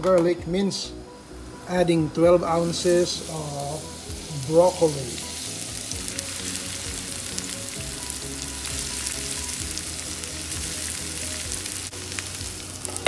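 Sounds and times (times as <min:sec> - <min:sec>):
garlic sizzling in hot oil: 0:01.4 - 0:13.0.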